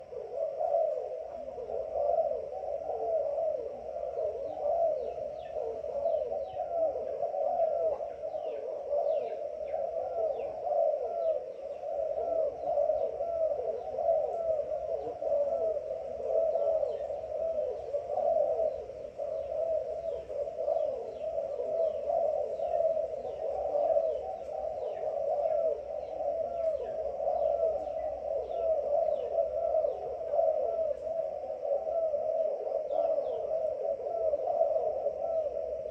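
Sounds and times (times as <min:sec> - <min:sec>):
doves cooing: 0:00.0 - 0:35.9.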